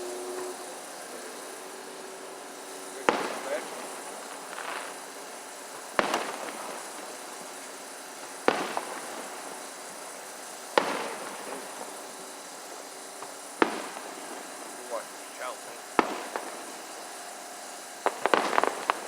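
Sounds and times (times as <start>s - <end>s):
firework shells booming: 0.0s - 19.0s.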